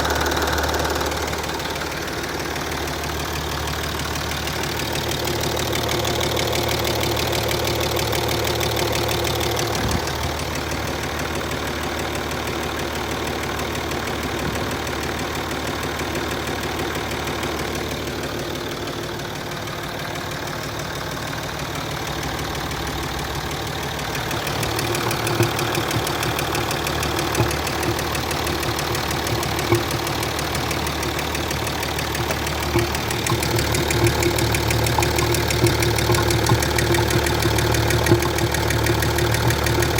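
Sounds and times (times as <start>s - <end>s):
diesel engine idling: 0.0s - 39.9s
engine knocking: 0.0s - 39.9s.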